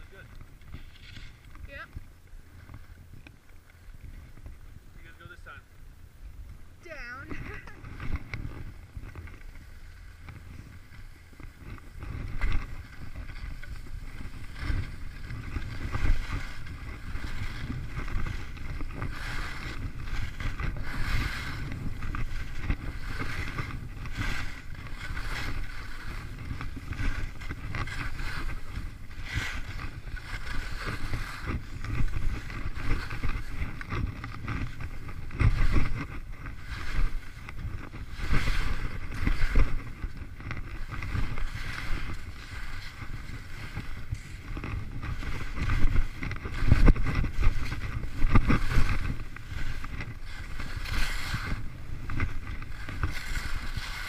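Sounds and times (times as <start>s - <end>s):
skis scraping over snow: 0.0s - 54.0s
wind buffeting microphone: 0.0s - 54.0s.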